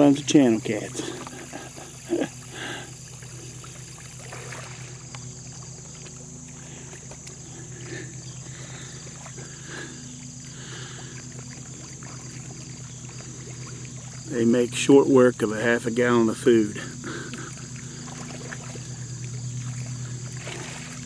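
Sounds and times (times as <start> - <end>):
soft water splashes and slurps: 0.0 - 21.0
steady low hum: 0.0 - 21.0.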